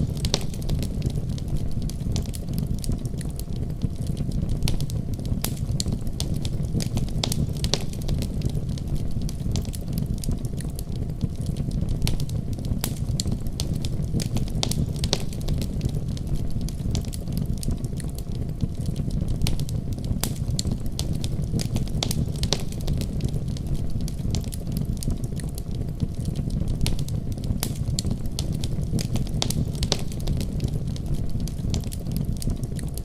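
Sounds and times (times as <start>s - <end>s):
deep rumble of snowstorm: 0.0s - 33.0s
wood fire crackling and popping: 0.0s - 33.0s.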